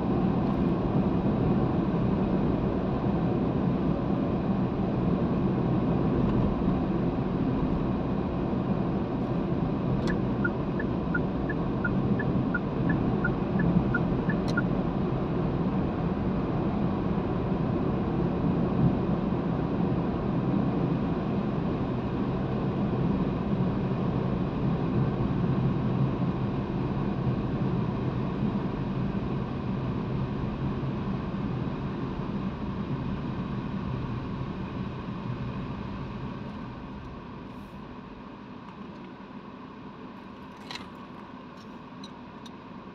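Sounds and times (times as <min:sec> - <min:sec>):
car engine and tyre noise: 0:00.0 - 0:42.9.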